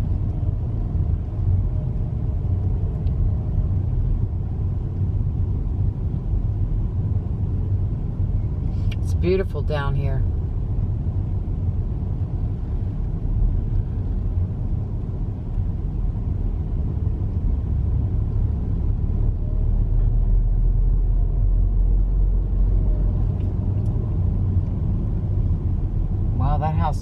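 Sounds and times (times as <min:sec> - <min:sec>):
car interior road rumble: 0:00.0 - 0:27.0.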